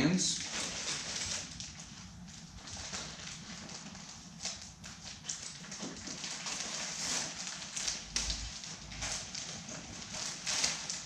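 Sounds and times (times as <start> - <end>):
plastic packaging crinkling: 0.3 - 11.0.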